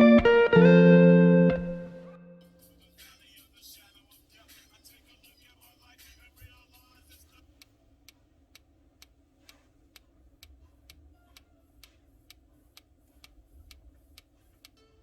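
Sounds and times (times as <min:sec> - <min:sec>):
faint ticking: 0:02.8 - 0:14.9.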